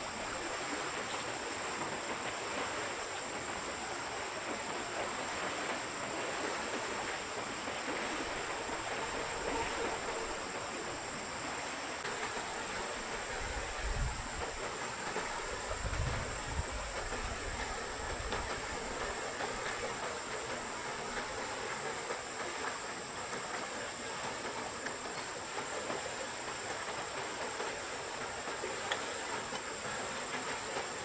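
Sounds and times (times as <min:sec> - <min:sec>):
faint high hiss: 0:00.0 - 0:31.0
stream water flowing: 0:00.0 - 0:31.0.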